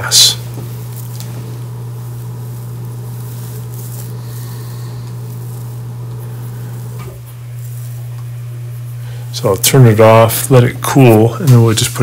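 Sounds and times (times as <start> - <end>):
gas oven low hum: 0.0 - 12.0.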